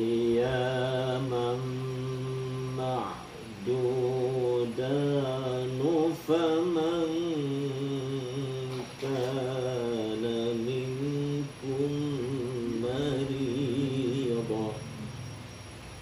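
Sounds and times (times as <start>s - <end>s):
man chanting recitation: 0.0s - 15.3s.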